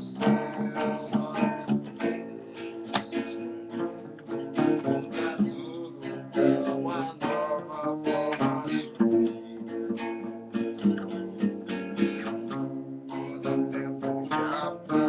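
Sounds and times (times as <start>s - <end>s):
acoustic bass guitar: 0.0s - 15.0s
acoustic guitar strumming: 0.0s - 15.0s.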